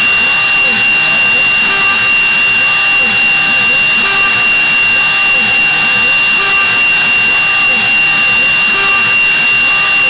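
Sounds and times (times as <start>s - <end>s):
hissing cutting noise: 0.0s - 10.0s
spindle high whine: 0.0s - 10.0s.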